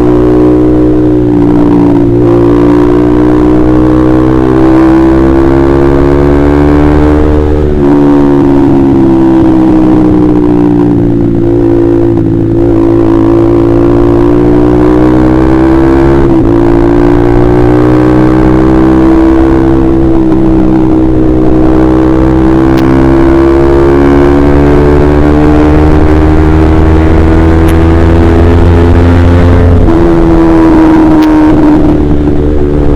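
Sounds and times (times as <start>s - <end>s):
motorcycle engine while riding: 0.0s - 32.9s.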